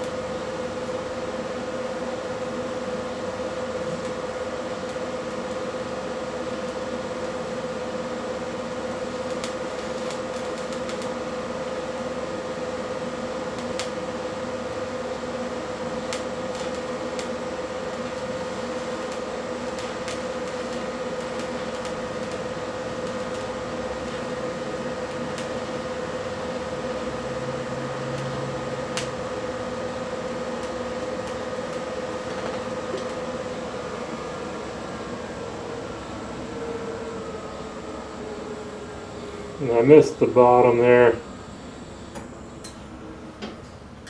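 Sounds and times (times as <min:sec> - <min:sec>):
welding arc humming buzz: 0:00.0 - 0:44.0.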